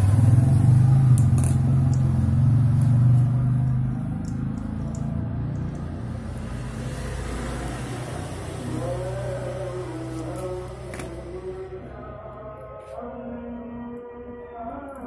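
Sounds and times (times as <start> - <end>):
vehicle engine rumbling: 0.0 - 14.5.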